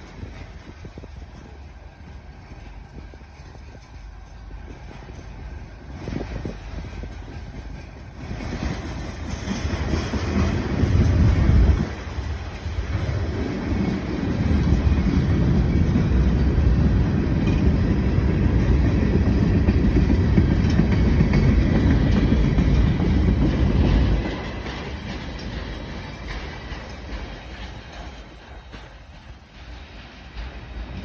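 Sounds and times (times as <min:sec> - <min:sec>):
freight train rumbling on rails: 0:00.0 - 0:31.0.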